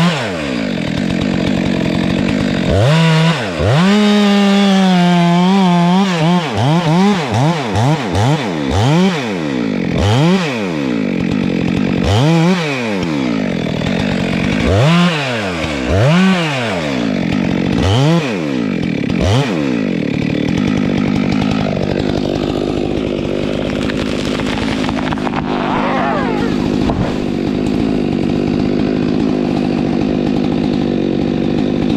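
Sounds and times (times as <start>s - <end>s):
chainsaw idling: 0.0s - 31.9s
chainsaw revving: 0.0s - 31.9s.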